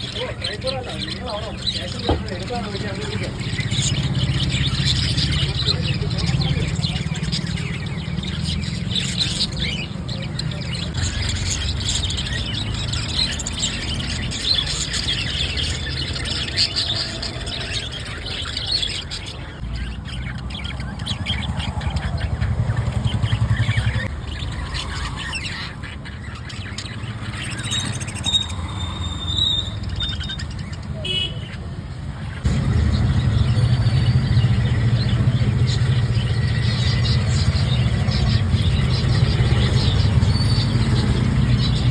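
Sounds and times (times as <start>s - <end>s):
small parrots chirping: 0.0s - 41.9s.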